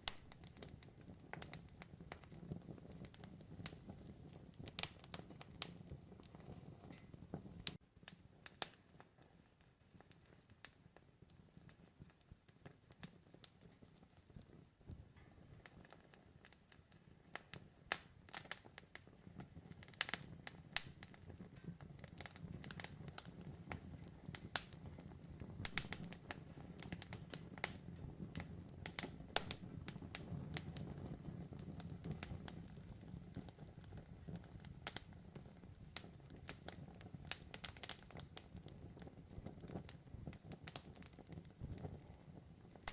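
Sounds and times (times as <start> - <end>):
campfire crackling and popping: 0.0 - 42.9
low rumble of burning wood: 0.0 - 42.9.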